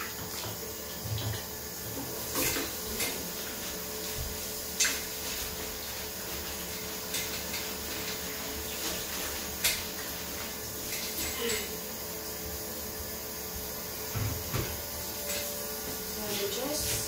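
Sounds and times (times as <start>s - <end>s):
steel wool scrubbing a sink: 1.8s - 12.0s, 12.9s - 17.0s.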